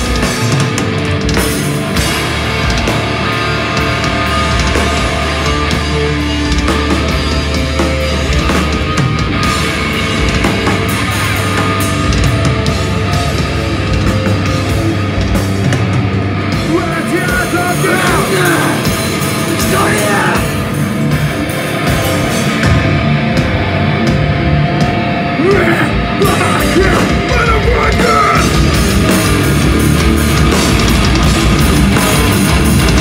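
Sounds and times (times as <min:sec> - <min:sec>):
loud heavy rock band: 0:00.0 - 0:33.0.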